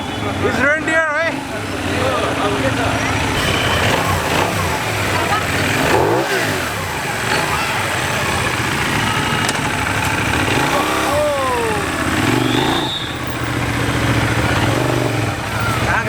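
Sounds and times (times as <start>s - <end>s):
motorcycle engine idling and revving: 0.0s - 16.0s
street voices: 0.0s - 16.0s.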